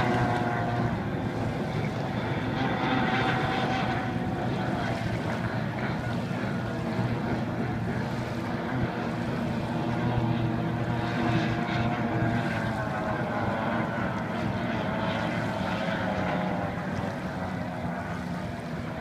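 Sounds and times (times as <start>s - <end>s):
racing boat engine drone: 0.0s - 19.0s.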